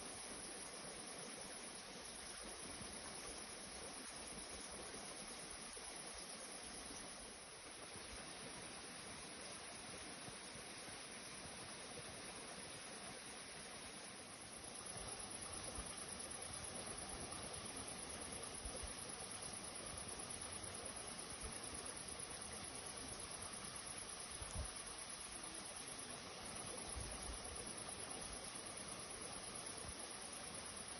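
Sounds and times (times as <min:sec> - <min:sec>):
crickets trilling: 0:00.0 - 0:30.9
soft even hiss: 0:00.0 - 0:30.9.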